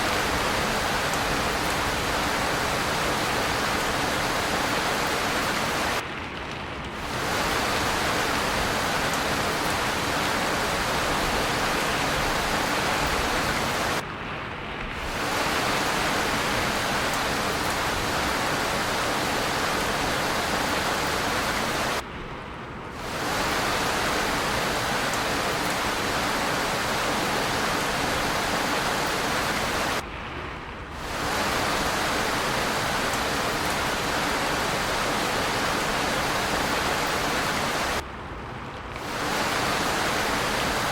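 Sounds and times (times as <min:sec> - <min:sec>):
rain falling: 0:00.0 - 0:30.1, 0:30.8 - 0:40.9.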